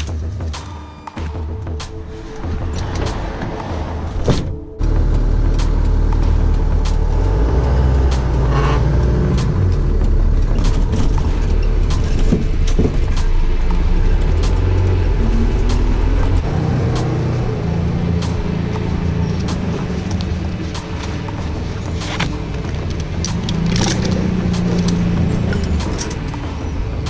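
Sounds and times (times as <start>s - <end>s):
truck engine and road noise: 0.0s - 27.0s
regular ticking: 4.8s - 27.0s.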